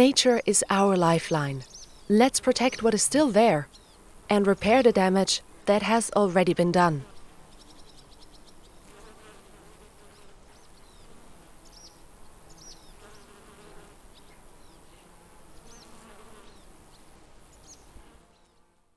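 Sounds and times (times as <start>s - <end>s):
insects buzzing: 0.0s - 18.9s.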